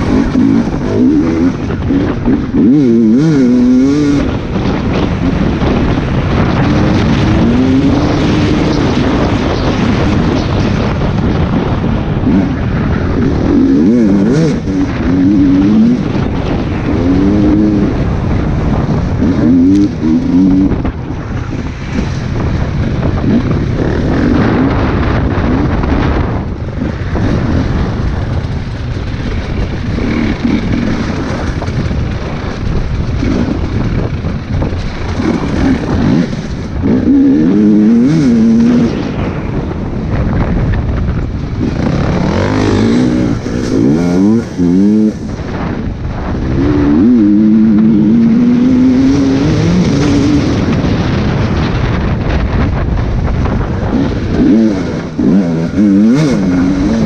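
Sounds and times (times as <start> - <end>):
dirt bike engine revving: 0.0 - 52.6, 53.2 - 57.0
wind rushing: 0.0 - 57.0.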